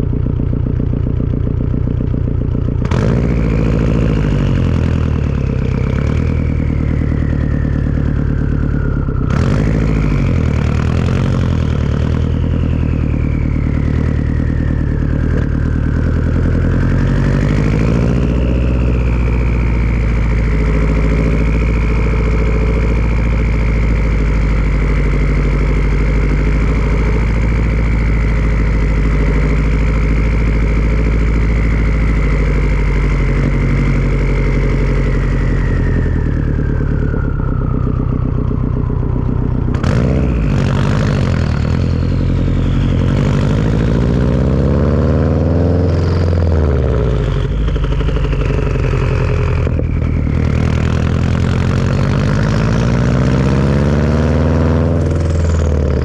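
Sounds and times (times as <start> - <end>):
turbocharged car engine: 0.0 - 56.0.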